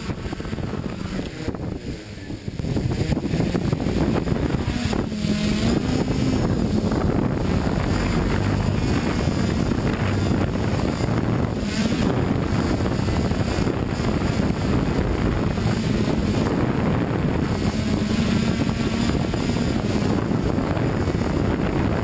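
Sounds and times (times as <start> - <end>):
drone motors and propellers: 0.0 - 22.0.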